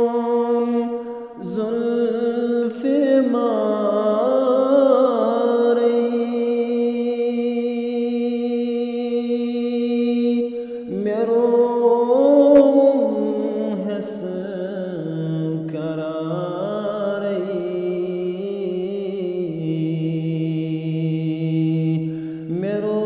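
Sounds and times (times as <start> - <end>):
man singing: 0.0 - 23.0.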